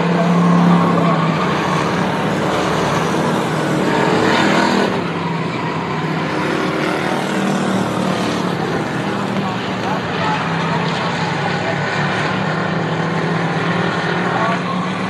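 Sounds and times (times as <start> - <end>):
stock car engines racing past: 0.0 - 15.0.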